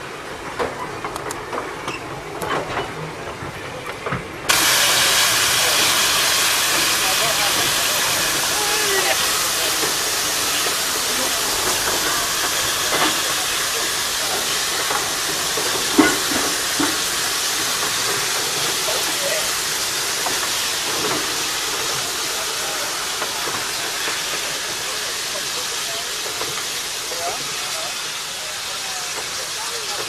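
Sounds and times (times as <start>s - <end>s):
locomotive steam hissing: 0.0s - 30.0s.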